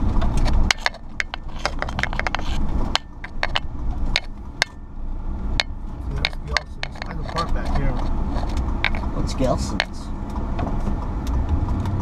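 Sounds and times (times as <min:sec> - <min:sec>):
clicking and rattling in cab: 0:00.0 - 0:04.8, 0:05.6 - 0:12.0
engine and road rumble: 0:00.0 - 0:12.0.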